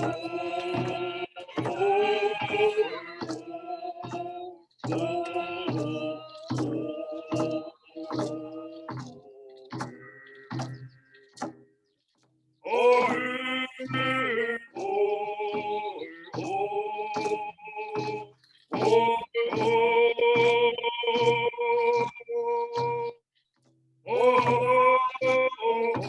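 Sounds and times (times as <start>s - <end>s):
steady drumbeat: 0.0s - 11.6s, 12.7s - 22.2s, 24.2s - 26.0s
voices singing a drum song: 0.0s - 11.6s, 12.6s - 23.2s, 24.1s - 26.0s.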